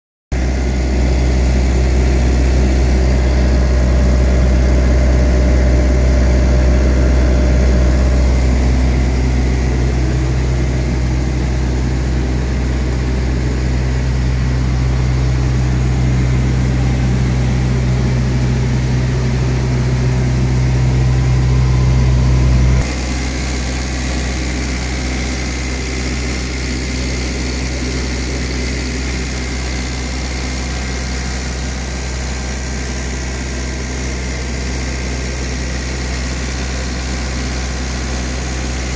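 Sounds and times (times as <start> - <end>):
diesel engine running: 0.3 - 38.9.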